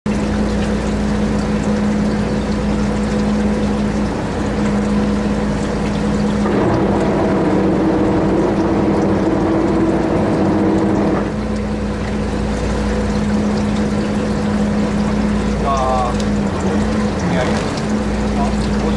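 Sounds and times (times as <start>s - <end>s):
boat engine droning: 0.1s - 18.9s
higher engine tone: 0.1s - 18.9s.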